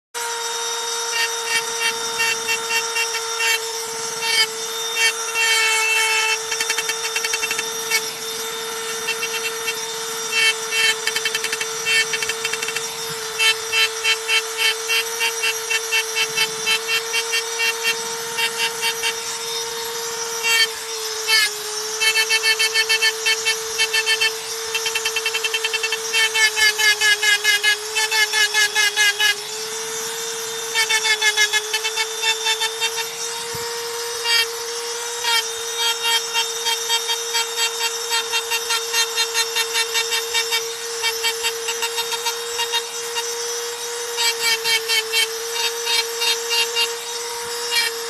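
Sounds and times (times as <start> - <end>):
drill bit rasping into wood: 0.2 - 48.0
electric drill whining: 0.2 - 48.0.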